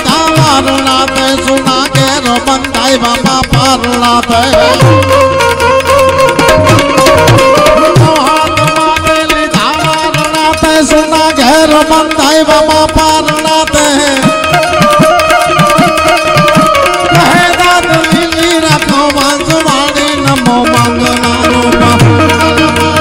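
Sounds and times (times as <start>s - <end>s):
held melody line: 0.0s - 23.0s
tabla drumming: 0.0s - 23.0s.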